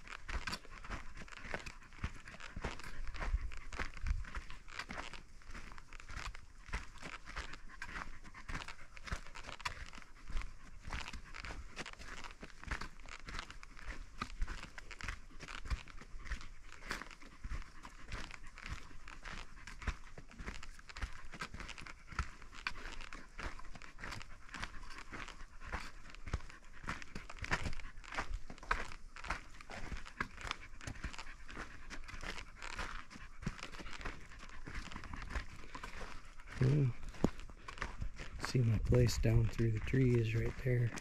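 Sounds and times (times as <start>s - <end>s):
footsteps crunching on dirt: 0.0s - 41.0s.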